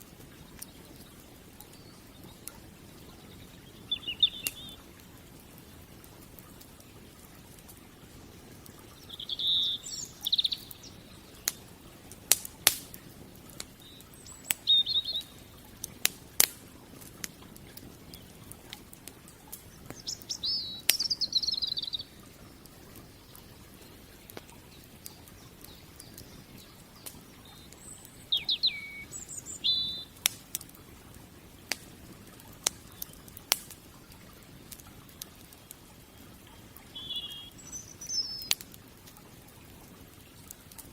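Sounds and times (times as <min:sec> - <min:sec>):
small birds chirping: 0:00.0 - 0:40.9
wood fire crackling: 0:00.0 - 0:40.9.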